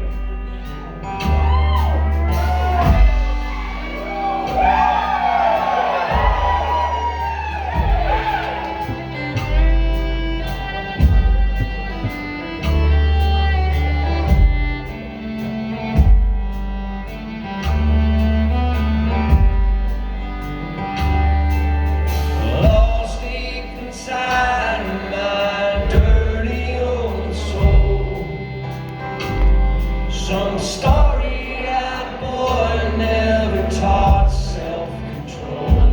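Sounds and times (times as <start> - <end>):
acoustic guitar: 0.0 - 35.9
fiddle melody: 0.0 - 35.9
low bass notes: 0.0 - 35.9.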